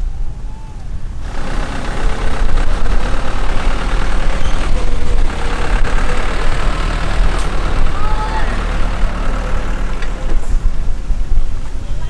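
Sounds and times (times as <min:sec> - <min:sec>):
truck engine idling: 0:00.4 - 0:12.0
truck driving up: 0:00.6 - 0:12.0.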